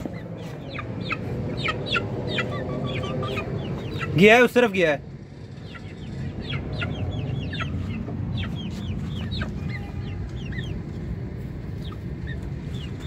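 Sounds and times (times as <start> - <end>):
chickens chirping: 0.0 - 13.0.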